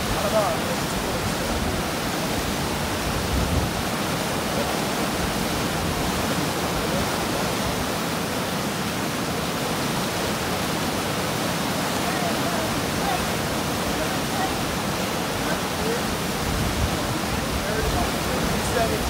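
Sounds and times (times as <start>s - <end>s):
whitewater rushing: 0.0s - 19.0s.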